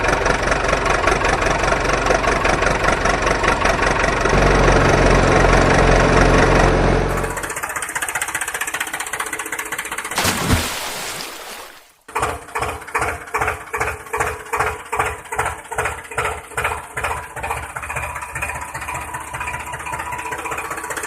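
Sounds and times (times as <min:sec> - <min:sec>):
engine chugging: 0:00.0 - 0:10.2, 0:12.1 - 0:21.0.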